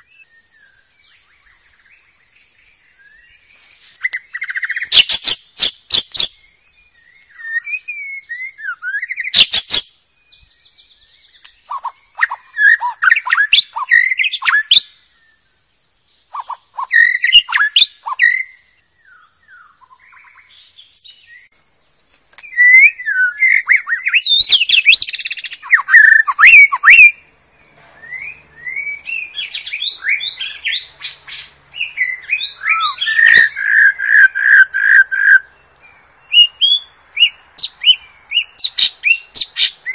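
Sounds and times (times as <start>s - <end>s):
bird singing whistled phrases: 4.0s - 15.0s, 16.3s - 21.5s, 22.4s - 35.6s, 36.2s - 39.9s.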